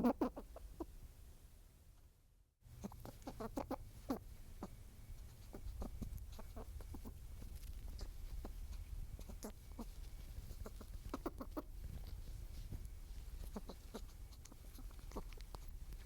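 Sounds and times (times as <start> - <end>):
small animals clucking and clicking: 0.0 - 0.9, 2.7 - 16.0.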